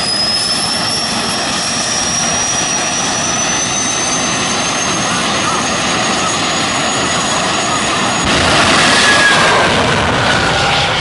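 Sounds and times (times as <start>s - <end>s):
high whine rising in pitch: 0.0s - 11.0s
turbine engine rushing: 0.0s - 11.0s.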